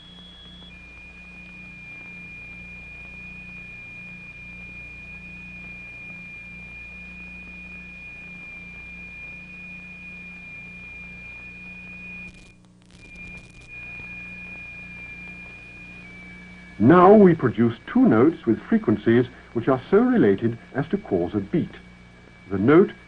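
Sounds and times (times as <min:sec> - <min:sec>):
crackles: 0:00.0 - 0:23.0
film hiss: 0:00.0 - 0:23.0
high-pitched sine tone: 0:00.0 - 0:23.0
low mains hum: 0:00.0 - 0:23.0.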